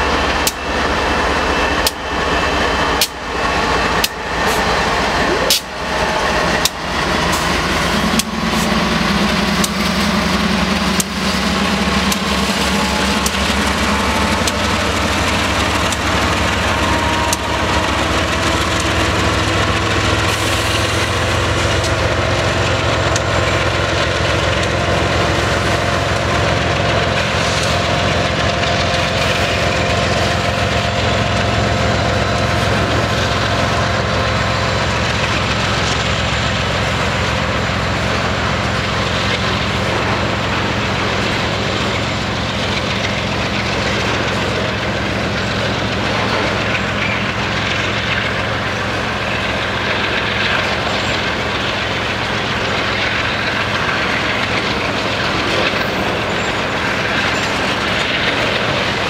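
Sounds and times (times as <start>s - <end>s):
diesel locomotive engines: 0.0s - 59.0s
train wheels rumbling on rails: 0.0s - 59.0s.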